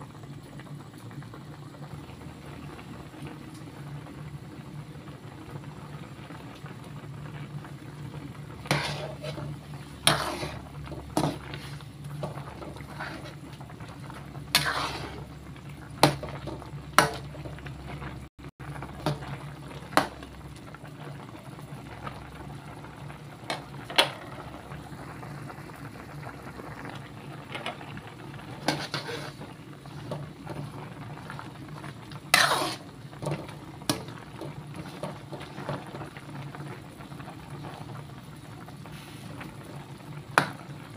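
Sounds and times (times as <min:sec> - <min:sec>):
broth bubbling: 0:00.0 - 0:40.9.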